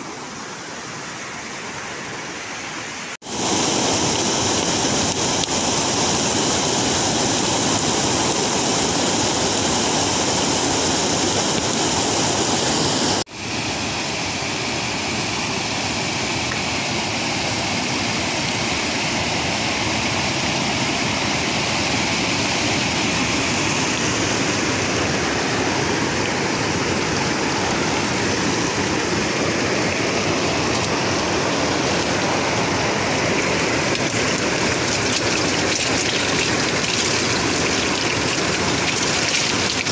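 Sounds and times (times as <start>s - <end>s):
flowing river water: 0.0s - 39.9s.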